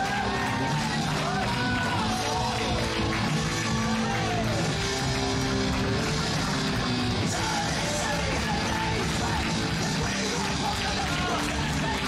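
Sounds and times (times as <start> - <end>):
rock music with singing: 0.0 - 12.0.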